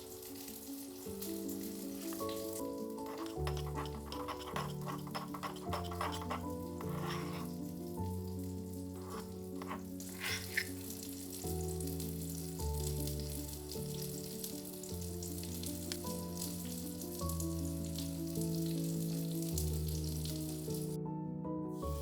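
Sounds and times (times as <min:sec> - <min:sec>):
food sizzling in a pan: 0:00.0 - 0:21.0
soft music of held chords: 0:00.0 - 0:22.0.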